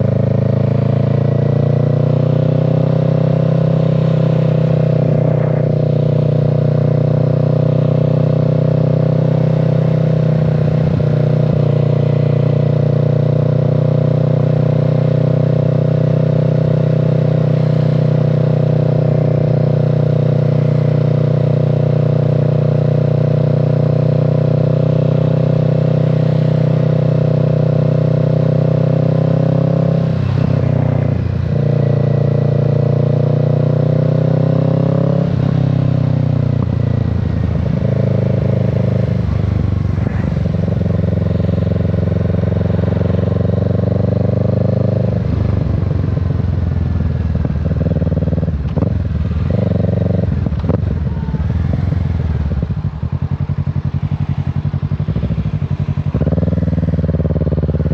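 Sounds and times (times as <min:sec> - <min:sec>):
motorcycle engine and exhaust: 0:00.0 - 0:57.9.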